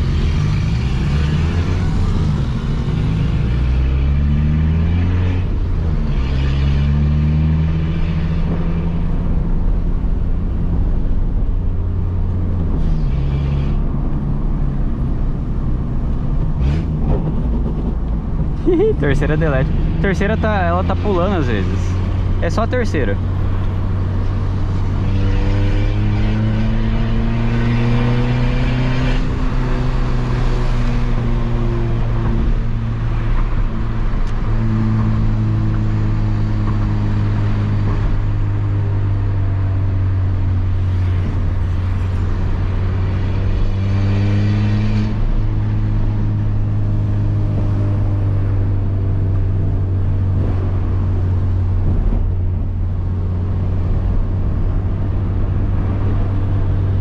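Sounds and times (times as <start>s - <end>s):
car engine revving: 0.0s - 11.0s, 12.6s - 57.0s.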